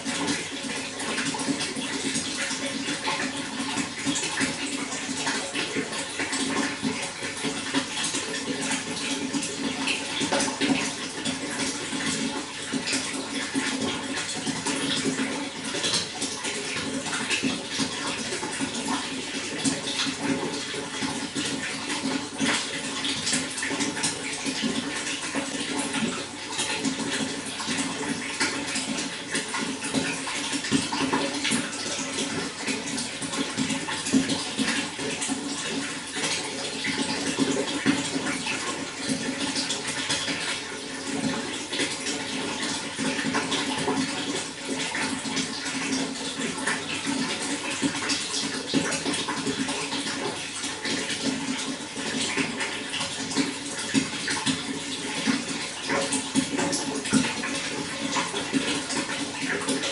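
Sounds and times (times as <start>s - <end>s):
water splashing and gurgling: 0.0s - 59.9s.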